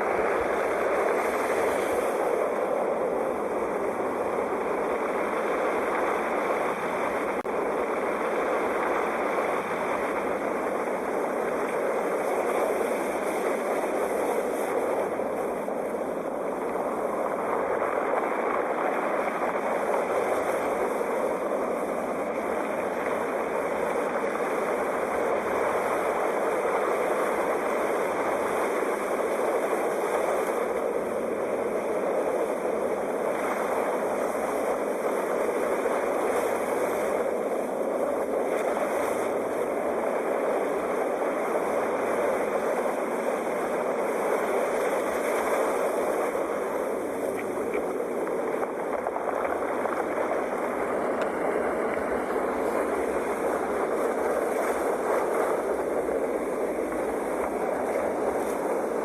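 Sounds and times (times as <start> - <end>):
sea waves washing: 0.0 - 59.0.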